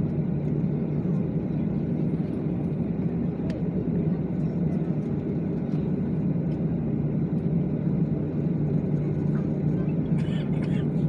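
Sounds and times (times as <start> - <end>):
jet engine drone in cabin: 0.0 - 11.0.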